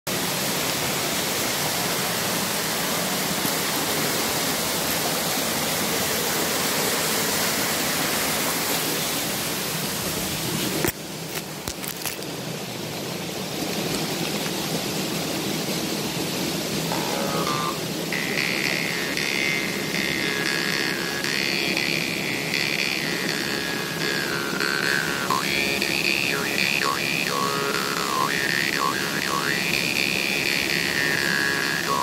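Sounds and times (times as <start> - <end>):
waterfall rushing: 0.1 - 32.0.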